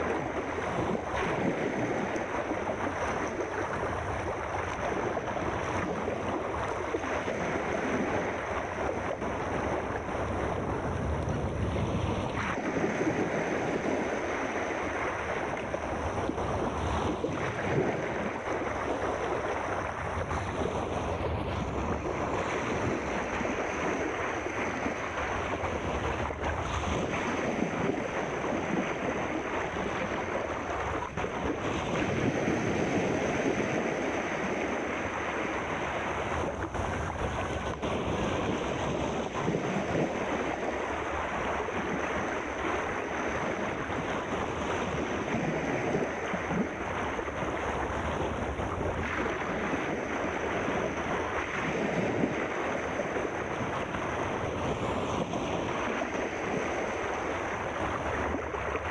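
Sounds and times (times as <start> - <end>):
sea surf rushing: 0.0 - 58.9.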